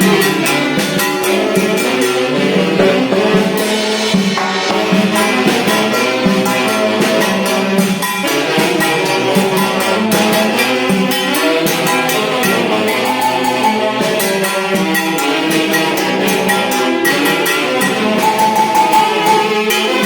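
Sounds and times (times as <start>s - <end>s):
folk band playing dance tune: 0.0s - 20.0s.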